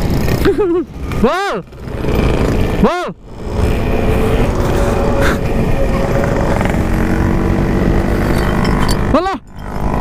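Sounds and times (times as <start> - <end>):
motorcycle engine running: 0.0 - 10.0
wind rumble on microphone: 1.8 - 10.0.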